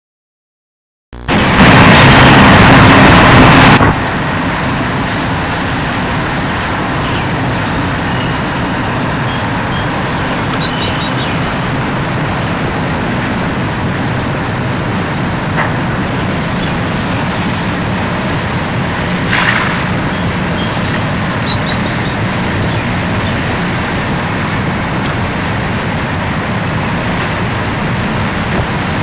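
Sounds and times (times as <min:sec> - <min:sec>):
freight train running past: 0:01.3 - 0:29.0.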